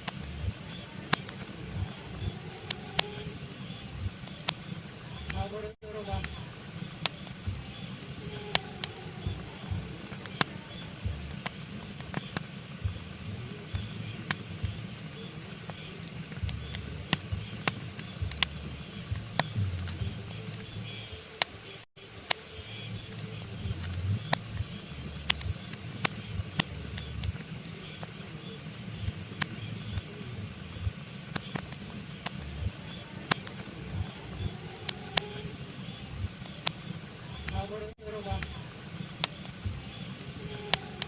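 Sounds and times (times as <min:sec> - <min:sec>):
logs crackling and popping in fire: 0:00.0 - 0:41.0.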